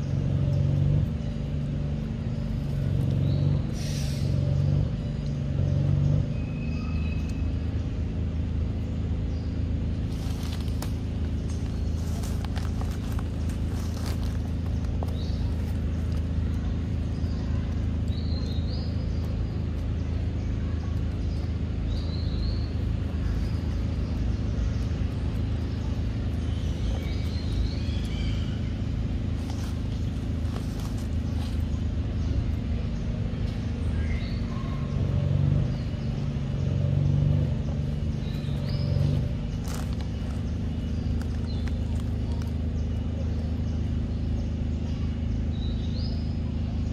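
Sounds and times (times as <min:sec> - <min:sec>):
bird chirps: 0:00.0 - 0:46.9
low mechanical hum: 0:00.0 - 0:46.9.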